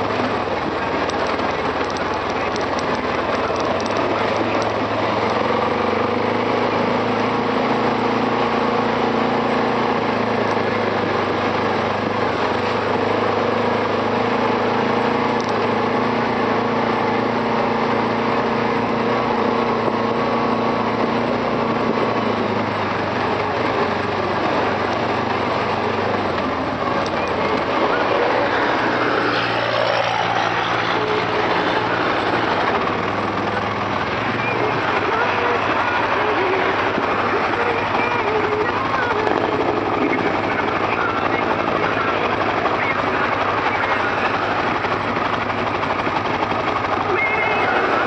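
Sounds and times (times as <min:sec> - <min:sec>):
atv engine running: 0:00.0 - 0:48.0
constant rushing noise: 0:00.0 - 0:48.0.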